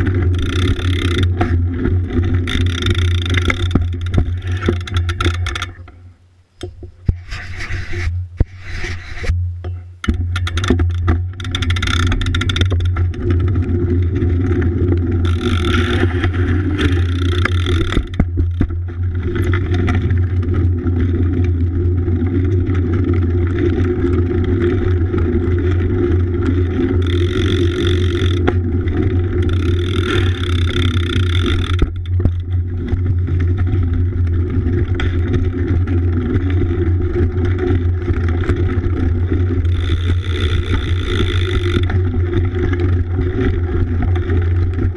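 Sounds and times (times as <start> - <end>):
bike tyres and frame rumbling: 0.0 - 44.9.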